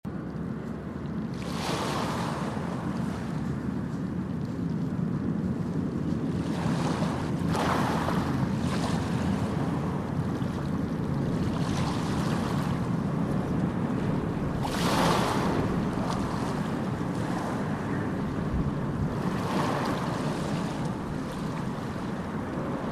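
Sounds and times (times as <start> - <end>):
sea waves breaking on shore: 0.1 - 22.9.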